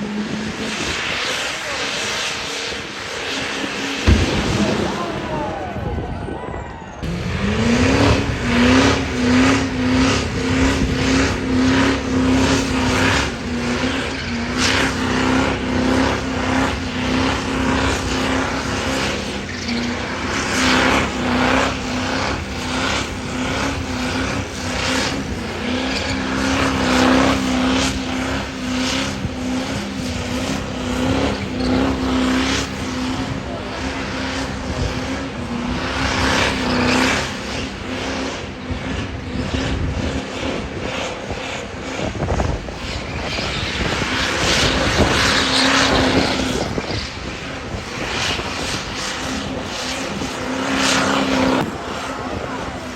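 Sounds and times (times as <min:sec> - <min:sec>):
truck engine running under load: 0:00.0 - 0:52.9.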